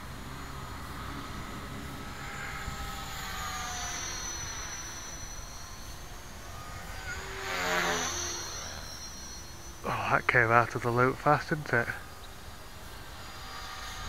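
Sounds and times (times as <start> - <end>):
rc helicopter rotor whine: 0.0 - 14.0.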